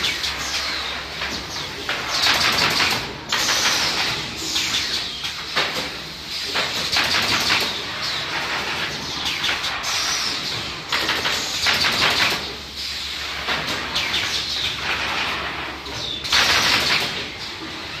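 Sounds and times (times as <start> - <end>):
mechanical clatter: 0.0 - 12.6, 13.2 - 17.8.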